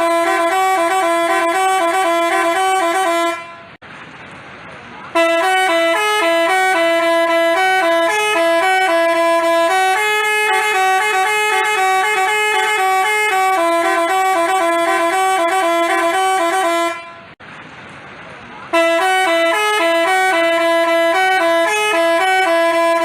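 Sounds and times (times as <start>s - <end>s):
musical air horn tune: 0.0s - 3.8s, 5.2s - 17.4s, 18.7s - 23.0s.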